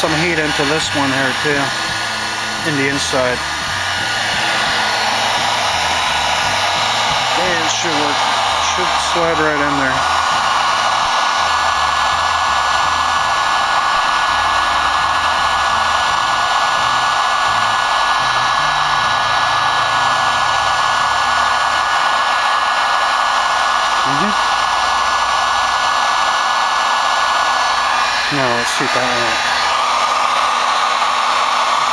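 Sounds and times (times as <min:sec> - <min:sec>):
heat gun blowing: 0:00.0 - 0:31.9.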